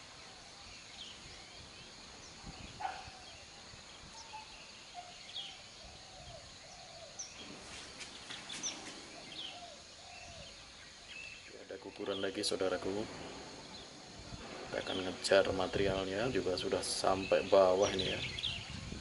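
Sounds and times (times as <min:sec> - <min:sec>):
birds calling: 0:00.0 - 0:19.0
low background hiss: 0:00.0 - 0:19.0.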